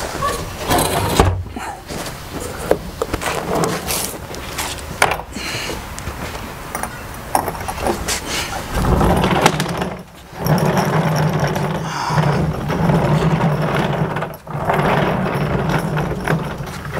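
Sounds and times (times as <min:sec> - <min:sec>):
casters rolling on concrete: 0:00.0 - 0:16.9.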